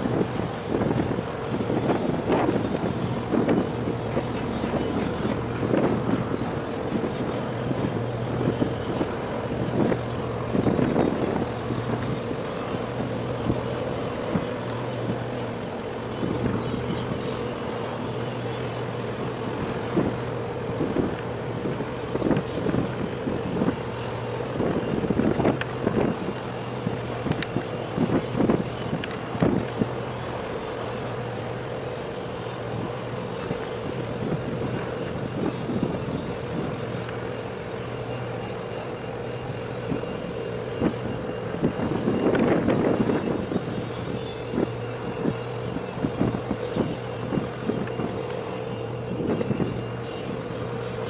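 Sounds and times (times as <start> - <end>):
engine hum: 0.0 - 51.0.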